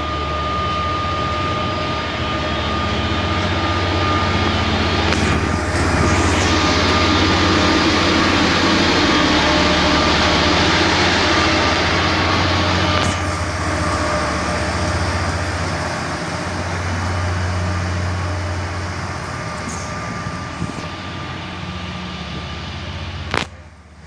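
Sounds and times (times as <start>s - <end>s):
track machine diesel engine drone: 0.0s - 24.0s.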